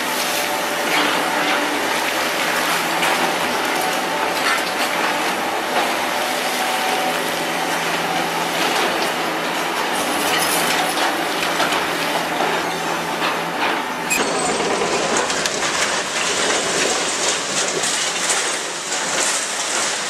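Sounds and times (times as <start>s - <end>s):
steel tracks clanking on rubble: 0.0s - 20.0s.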